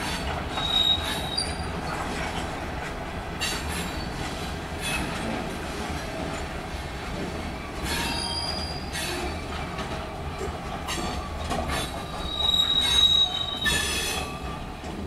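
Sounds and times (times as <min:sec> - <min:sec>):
train wheels squealing on rails: 0:00.0 - 0:02.6, 0:03.3 - 0:05.4, 0:07.3 - 0:15.0
freight train rumbling past: 0:00.0 - 0:15.0.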